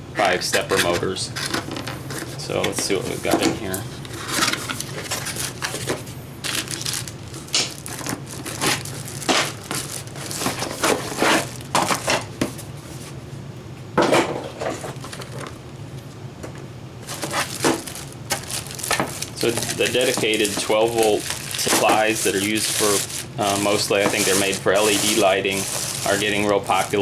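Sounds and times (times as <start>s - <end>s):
packaging rustling: 0.7s - 13.2s, 14.6s - 15.6s, 17.0s - 27.0s.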